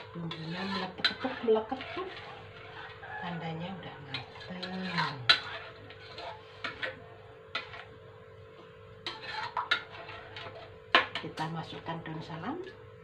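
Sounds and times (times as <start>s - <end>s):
metal ladle scraping a wok: 0.0s - 8.0s, 9.0s - 11.8s.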